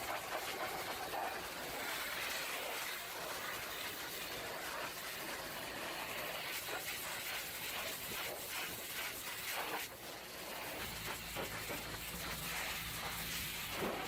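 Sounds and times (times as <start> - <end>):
pressure washer spraying water: 0.0 - 14.0.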